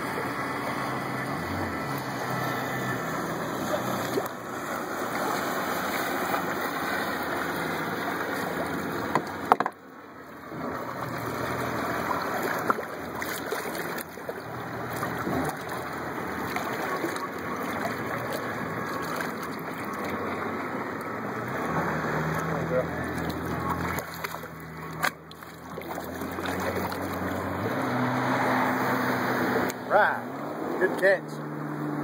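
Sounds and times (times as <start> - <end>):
water sloshing and splashing: 0.0 - 32.0.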